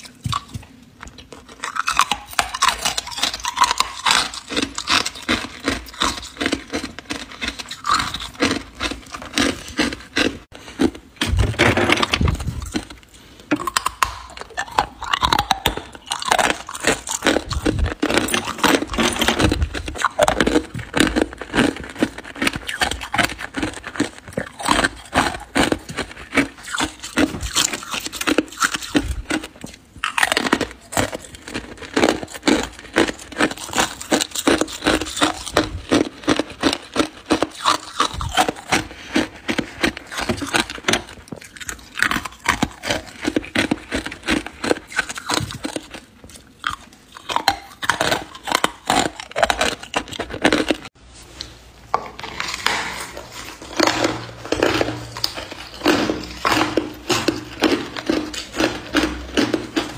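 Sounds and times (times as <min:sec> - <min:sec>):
ice being chewed: 0:00.0 - 0:51.5, 0:52.2 - 0:59.9.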